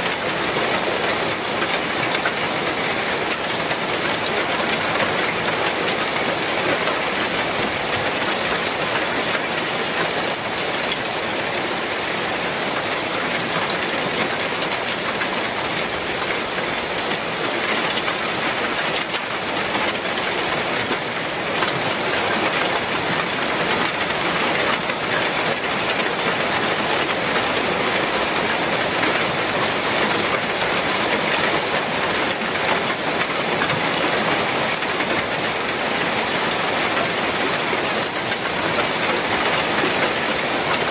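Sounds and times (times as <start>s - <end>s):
heavy rain on tile roof: 0.0s - 40.9s.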